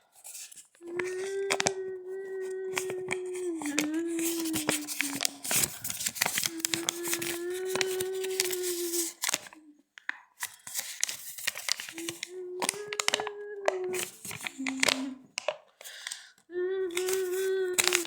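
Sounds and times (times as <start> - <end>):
crackly scraping and clicking: 2.7 - 16.1, 16.9 - 18.0.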